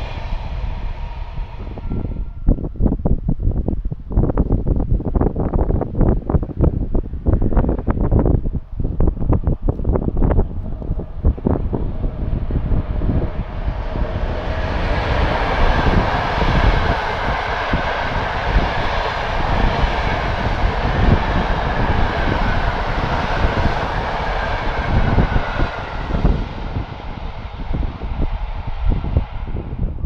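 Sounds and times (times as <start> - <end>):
train wheels rumbling on rails: 0.0 - 30.0
wind buffeting microphone: 0.0 - 30.0.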